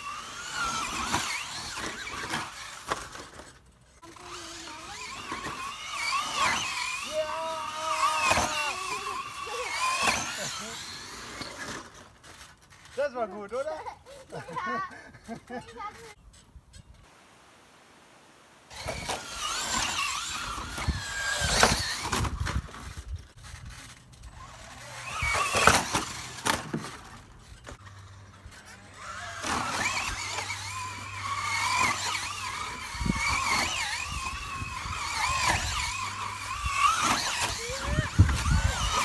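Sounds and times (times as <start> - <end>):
rc truck electric motor whining: 0.0 - 13.1, 18.7 - 39.0.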